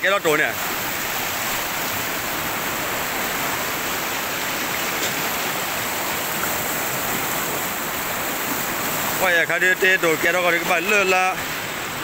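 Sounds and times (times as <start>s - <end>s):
turbulent river water rushing: 0.0s - 12.0s.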